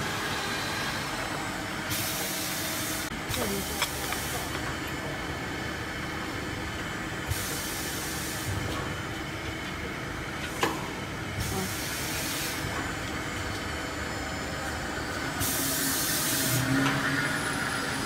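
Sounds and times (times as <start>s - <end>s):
machine running steadily: 0.0s - 18.0s.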